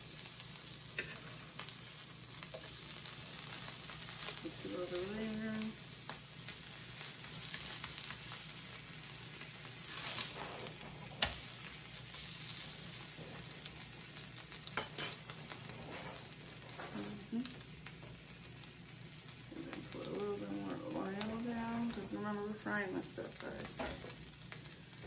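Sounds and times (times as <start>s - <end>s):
food frying in hot oil: 0.0s - 25.0s.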